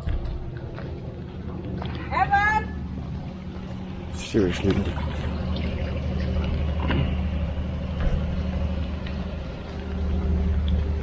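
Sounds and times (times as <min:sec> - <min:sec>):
large vehicle engine humming: 0:00.0 - 0:11.0.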